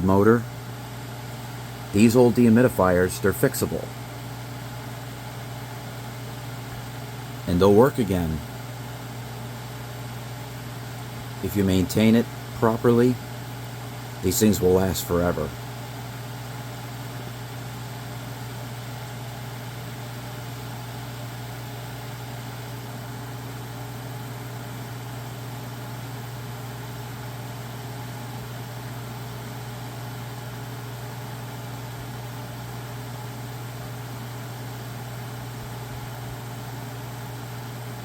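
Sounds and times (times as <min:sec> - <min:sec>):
dehumidifier humming: 0:00.0 - 0:38.0.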